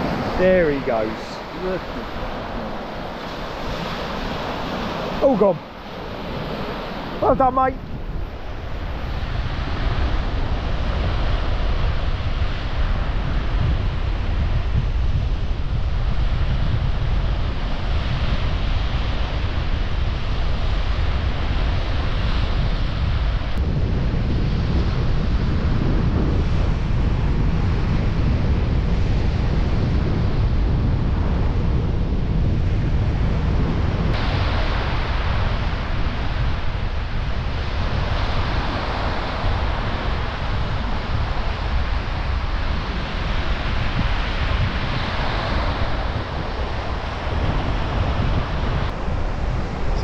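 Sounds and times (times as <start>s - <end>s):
surf washing on beach: 0.0s - 50.0s
wind buffeting microphone: 0.0s - 50.0s.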